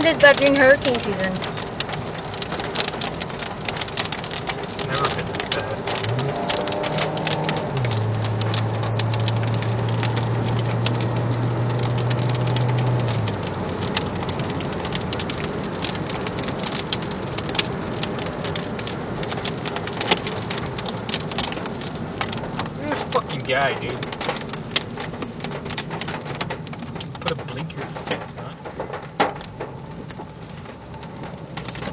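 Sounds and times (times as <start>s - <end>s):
hailstones clicking: 0.0s - 31.9s
heavy rain on car: 0.0s - 31.9s.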